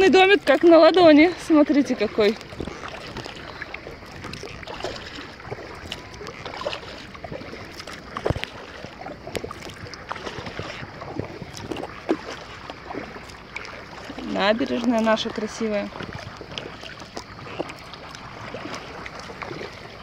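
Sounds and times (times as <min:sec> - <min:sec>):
paddle strokes in water: 0:00.0 - 0:20.0
water lapping: 0:00.0 - 0:20.0.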